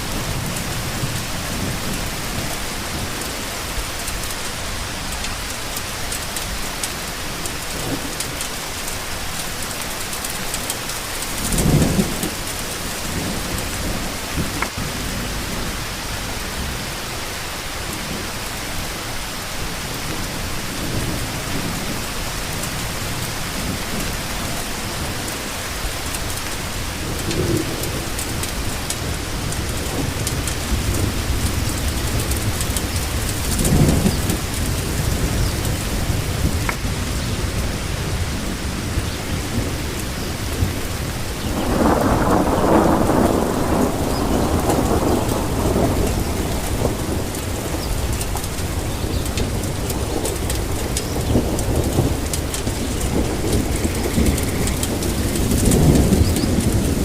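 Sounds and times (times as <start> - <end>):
rain falling: 0.0 - 57.0
thunder rumbling: 0.0 - 57.0.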